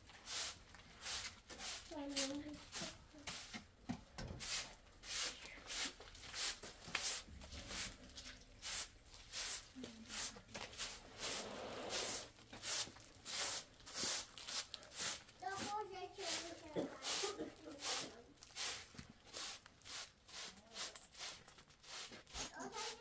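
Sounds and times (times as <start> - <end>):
broom sweeping concrete floor: 0.0 - 23.0.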